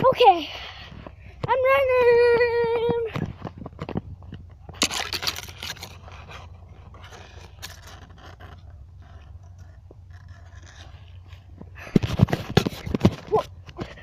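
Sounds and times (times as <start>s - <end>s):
rustling and scraping: 0.0s - 14.0s.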